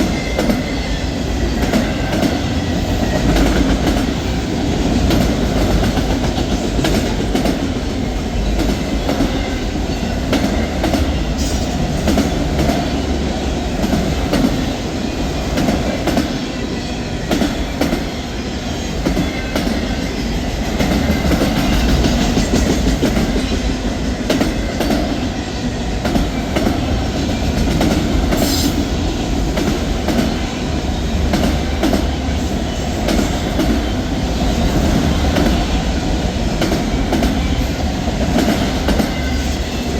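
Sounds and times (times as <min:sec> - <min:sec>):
train cars rumbling past: 0:00.0 - 0:39.9.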